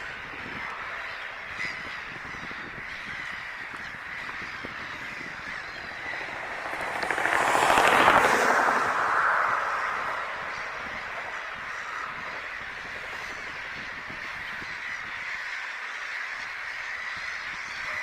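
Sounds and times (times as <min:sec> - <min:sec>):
broad rushing noise: 0:00.0 - 0:14.8
birds calling: 0:00.0 - 0:18.0.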